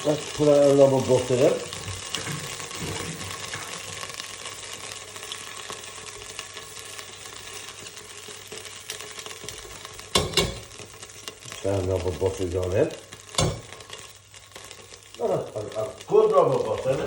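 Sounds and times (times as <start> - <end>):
butter sizzling in a pan: 0.0 - 17.0.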